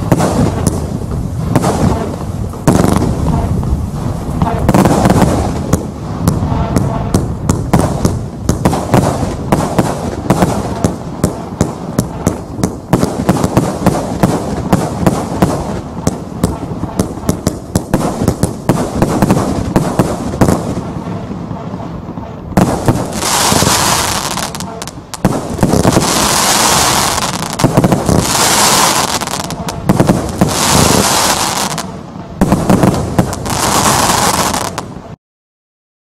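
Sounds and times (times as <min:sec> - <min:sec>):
firework hiss: 0:00.0 - 0:21.4, 0:22.6 - 0:34.9
firework crackling: 0:00.0 - 0:35.2
fireworks launching and bursting: 0:00.0 - 0:35.2.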